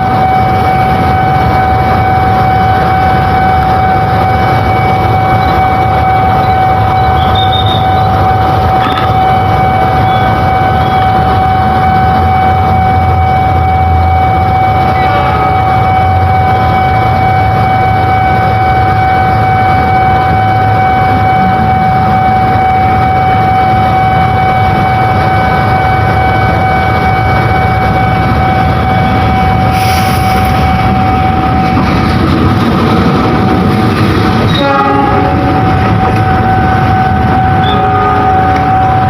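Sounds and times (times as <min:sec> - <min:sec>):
high whine: 0:00.0 - 0:39.0
train rumbling: 0:00.0 - 0:39.0.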